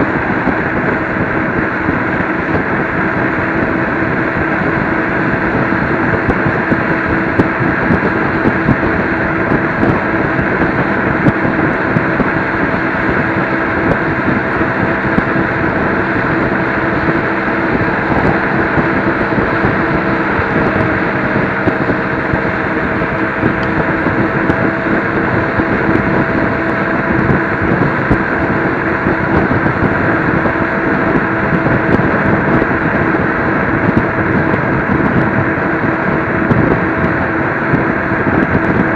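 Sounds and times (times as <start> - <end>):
electric scooter motor hum: 0.0 - 38.9
wind and road noise: 0.0 - 38.9.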